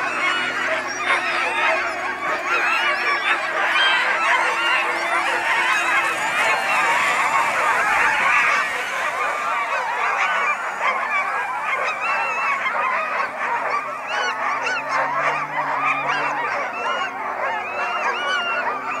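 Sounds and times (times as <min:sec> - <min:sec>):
sled dogs yelping and barking: 0:00.0 - 0:19.0.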